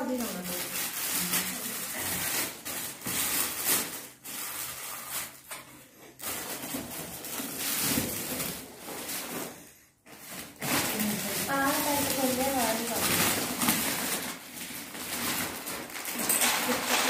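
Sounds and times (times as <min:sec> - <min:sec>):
cardboard packaging rustling: 0:00.0 - 0:17.0.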